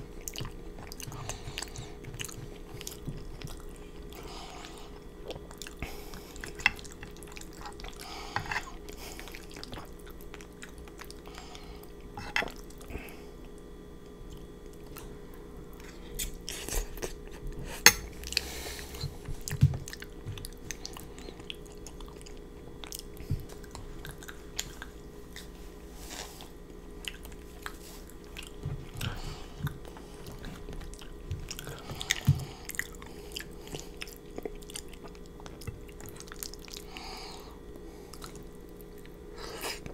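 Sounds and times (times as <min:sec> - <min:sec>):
chewing noodles: 0:00.0 - 0:39.9.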